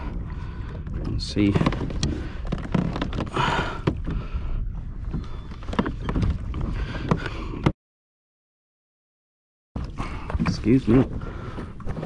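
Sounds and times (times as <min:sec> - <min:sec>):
rumble of water and wind: 0:00.0 - 0:07.8, 0:09.8 - 0:12.0.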